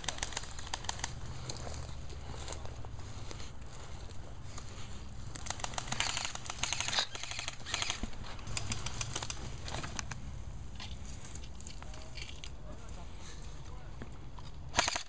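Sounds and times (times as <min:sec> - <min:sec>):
brush and dry leaves crackling: 0:00.0 - 0:14.3.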